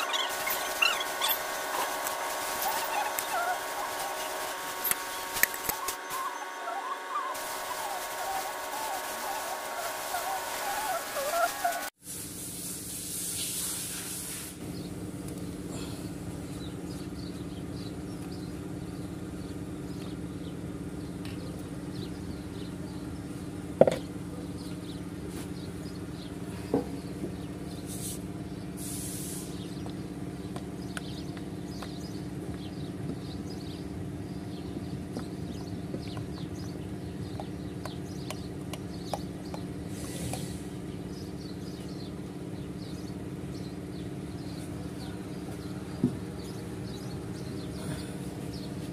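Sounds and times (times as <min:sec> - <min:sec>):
engine running: 0:00.0 - 0:12.9, 0:14.6 - 0:48.9.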